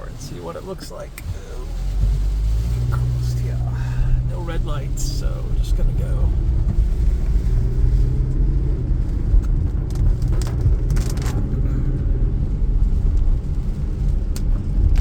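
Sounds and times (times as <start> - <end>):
road and engine rumble: 0.0 - 15.0
engine note rising: 1.0 - 13.5.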